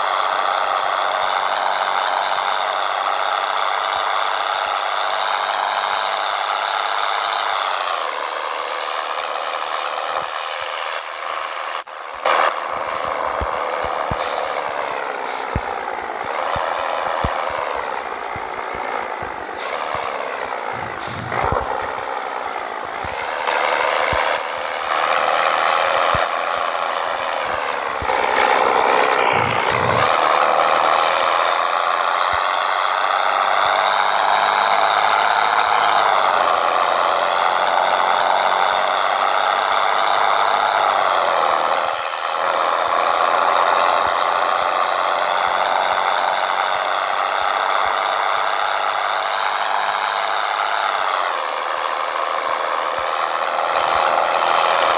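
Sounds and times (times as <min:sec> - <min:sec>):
truck diesel engine under load: 0:00.0 - 0:54.9.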